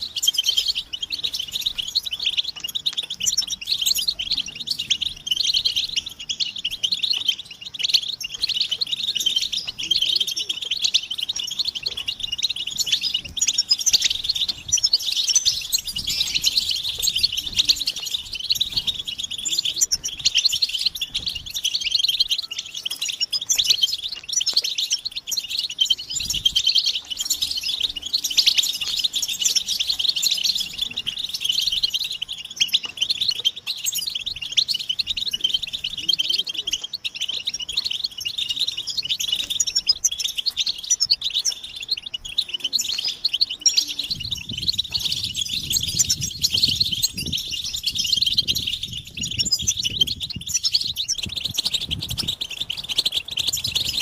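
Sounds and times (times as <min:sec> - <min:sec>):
goldfinches twittering and chirping: 0:00.0 - 0:54.0.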